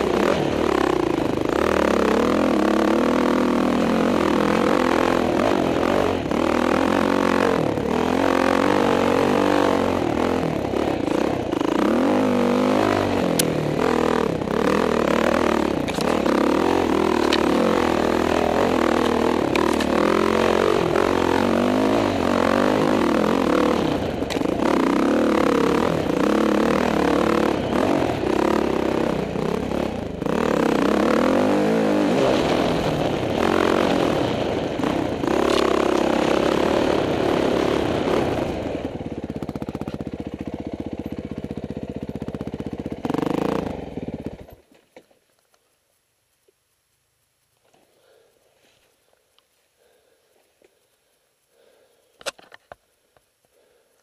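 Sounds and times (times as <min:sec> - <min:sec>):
dirt bike engine revving: 0:00.0 - 0:44.6.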